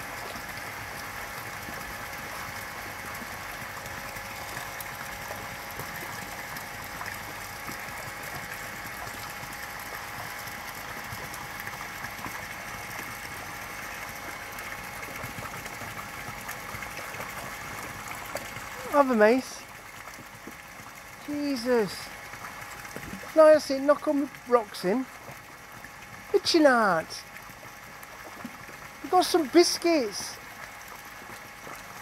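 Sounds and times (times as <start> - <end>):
water trickling in a pond: 0.0 - 32.0.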